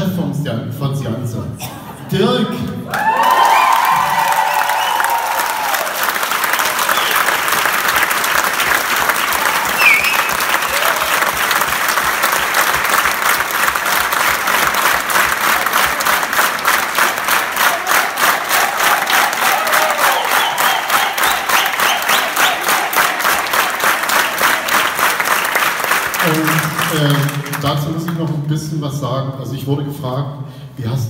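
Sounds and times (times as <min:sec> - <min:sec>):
crowd applause: 0:02.9 - 0:28.2
rhythmic clapping in unison: 0:02.9 - 0:28.4.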